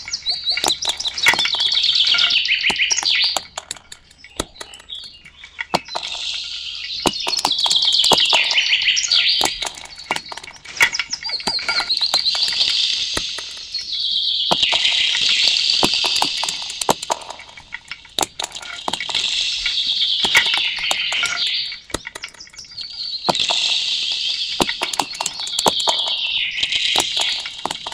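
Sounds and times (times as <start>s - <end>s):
bird-like chirping trills: 0.0s - 27.9s
sharp clicks: 0.0s - 27.9s.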